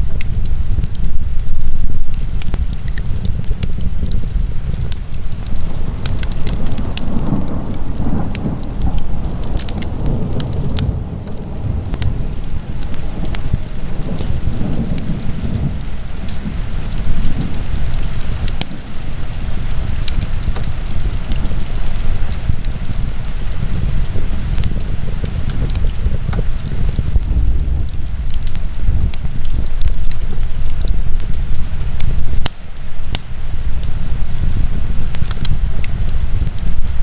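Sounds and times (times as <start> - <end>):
low fire rumble: 0.0 - 37.0
wood fire crackling and popping: 0.0 - 37.0.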